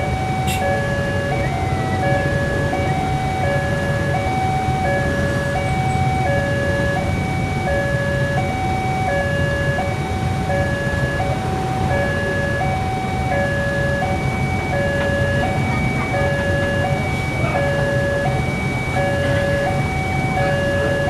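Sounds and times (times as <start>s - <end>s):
railroad crossing alarm two-tone: 0.0s - 21.0s.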